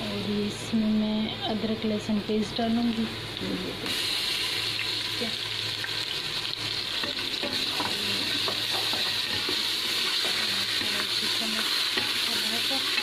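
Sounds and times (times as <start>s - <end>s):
onions sizzling in a pot: 0.0s - 13.0s.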